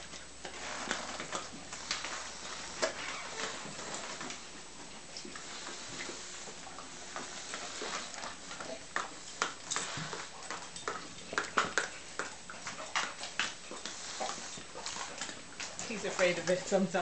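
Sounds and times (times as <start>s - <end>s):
dogs licking and smacking: 0.0s - 17.0s.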